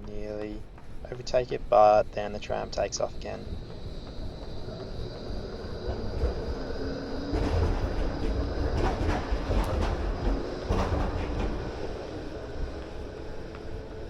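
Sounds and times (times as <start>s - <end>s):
tram low rumble: 0.0s - 14.0s
tram wheels clacking on rails: 0.0s - 14.0s.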